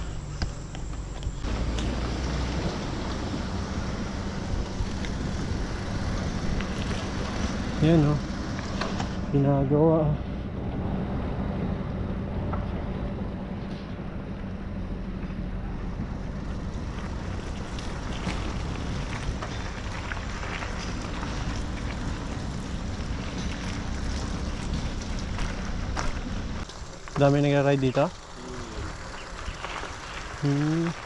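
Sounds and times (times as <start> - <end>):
steady low rumble: 0.0 - 30.5.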